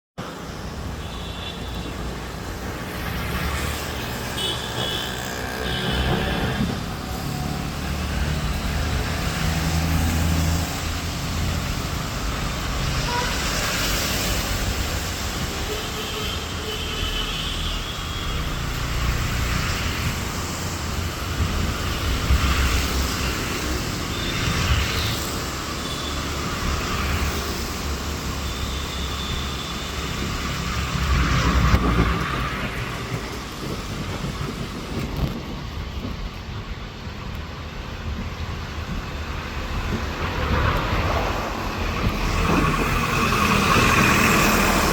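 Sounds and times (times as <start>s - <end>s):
road traffic passing: 0.2s - 44.9s.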